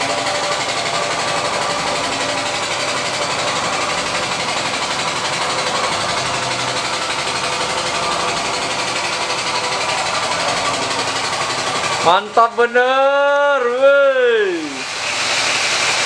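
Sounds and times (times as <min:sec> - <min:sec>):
machine running with hiss and hum: 0:00.0 - 0:16.0.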